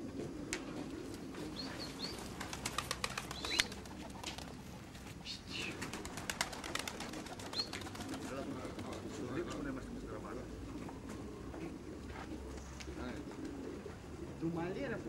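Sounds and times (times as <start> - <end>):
pigeons cooing faintly: 0.0 - 15.0.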